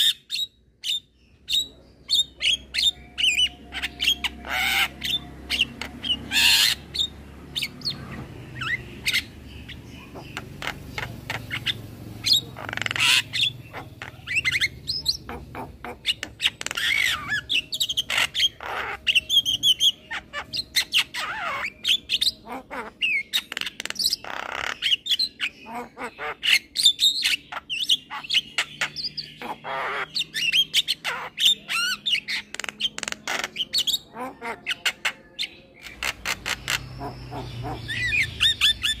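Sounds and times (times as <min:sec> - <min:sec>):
myna bird singing: 0:00.0 - 0:39.0.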